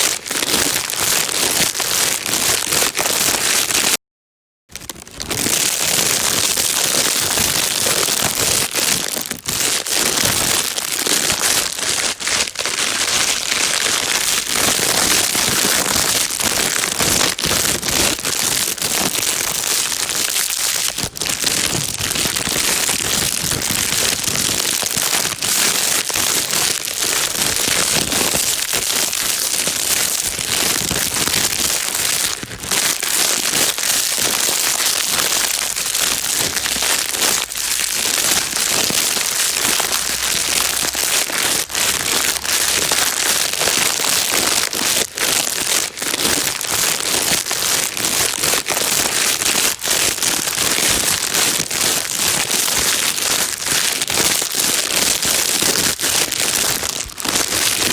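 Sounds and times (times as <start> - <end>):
plastic bag crumpling and rustling: 0.0 - 4.0, 4.7 - 57.9.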